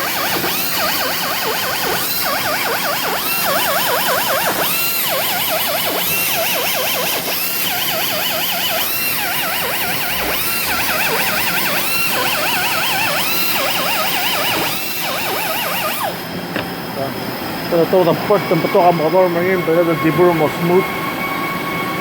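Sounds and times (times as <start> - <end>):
drive motors whining: 0.0 - 22.0
machining noise: 0.0 - 22.0.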